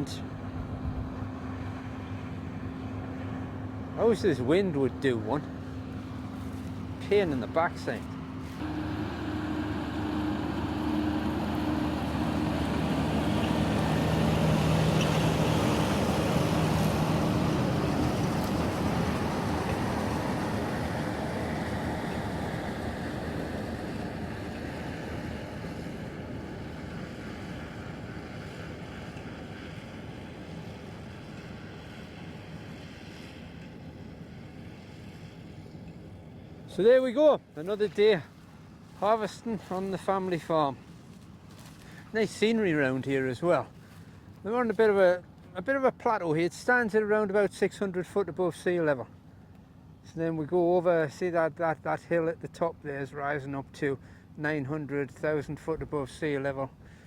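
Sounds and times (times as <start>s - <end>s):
harvester engine hum: 0.0s - 57.0s.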